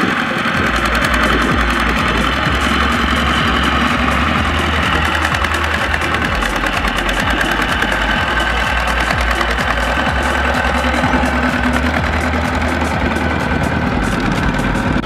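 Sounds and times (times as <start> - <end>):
diesel tractor engine knocking: 0.0 - 15.0.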